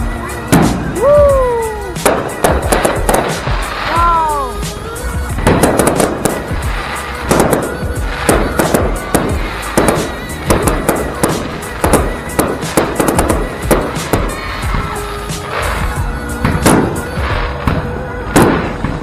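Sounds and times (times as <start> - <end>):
fireworks bangs: 0.0 - 19.0
fireworks crackling: 0.0 - 19.0
music playing: 0.0 - 19.0.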